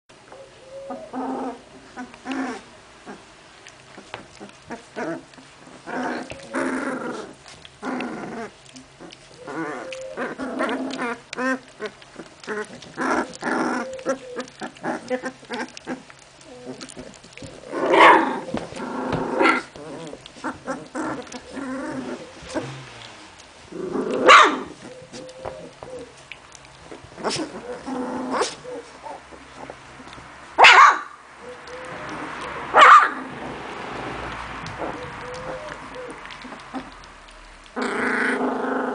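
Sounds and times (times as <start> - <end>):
puppies growling and yipping: 0.4 - 38.9.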